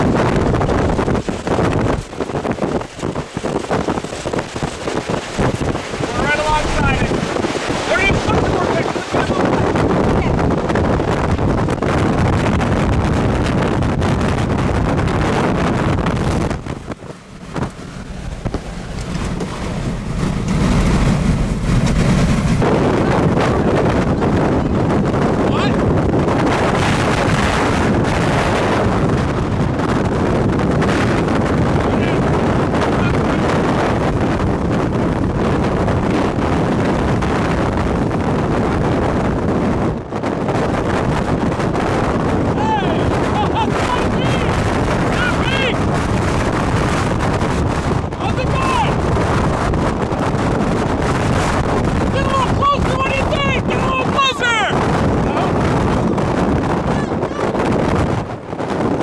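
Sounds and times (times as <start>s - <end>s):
strong wind rushing: 0.0s - 59.0s.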